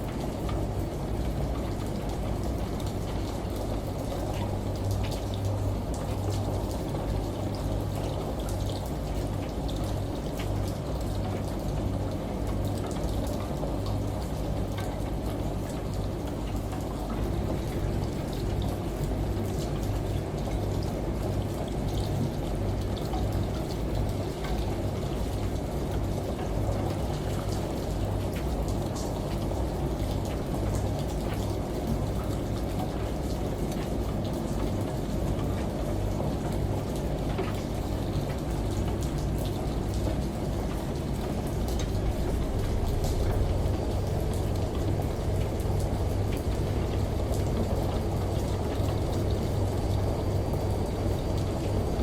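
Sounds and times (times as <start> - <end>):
rain: 0.0 - 52.0
washing machine hum: 0.0 - 52.0
water drips: 0.1 - 52.0
running water: 0.2 - 52.0.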